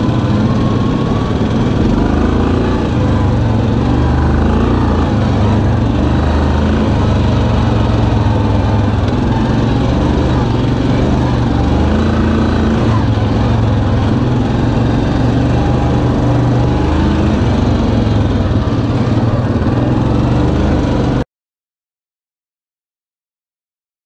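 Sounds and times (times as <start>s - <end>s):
atv engine running: 0.0s - 21.2s
wind: 0.0s - 21.2s.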